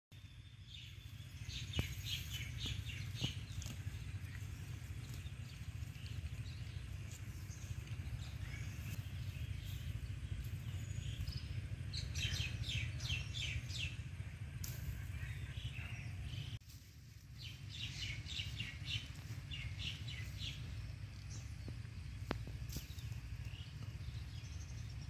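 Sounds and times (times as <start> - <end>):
small birds chirping: 0.1 - 25.0
steady low rumble: 0.2 - 25.0.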